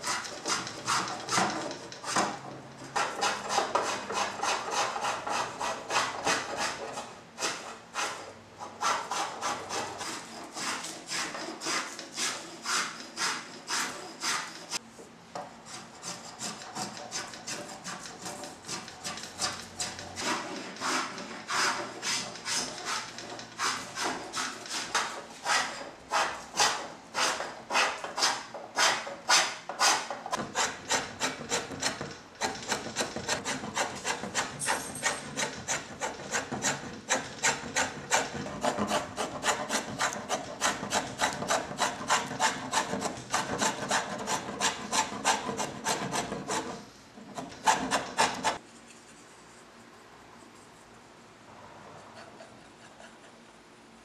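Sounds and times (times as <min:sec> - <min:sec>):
hand tools shaving wood: 0:00.0 - 0:02.4, 0:03.0 - 0:08.2, 0:08.8 - 0:14.8, 0:15.7 - 0:48.6.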